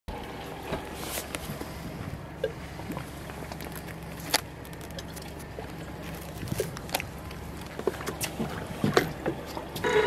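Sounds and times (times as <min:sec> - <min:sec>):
boat engine idling: 0:00.1 - 0:10.0.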